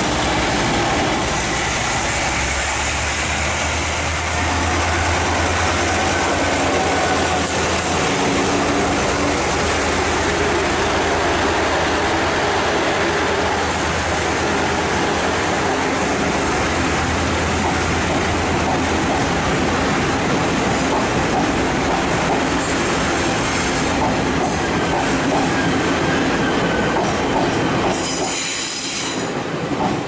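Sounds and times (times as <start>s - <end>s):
diesel locomotive engine drone: 0.0s - 30.0s
train wheels rolling on rails: 0.0s - 30.0s.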